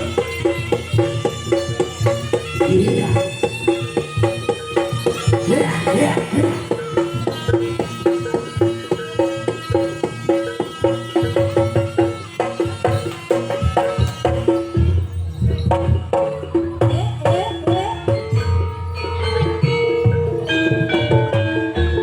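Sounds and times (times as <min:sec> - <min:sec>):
hand drums: 0:00.0 - 0:22.0
pitched gamelan percussion: 0:00.0 - 0:22.0.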